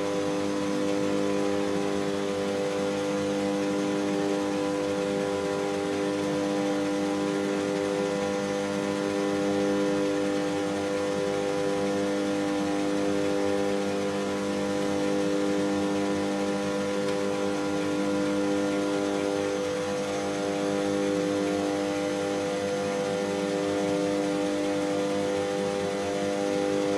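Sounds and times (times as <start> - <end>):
cooling fans whirring: 0.0 - 26.9.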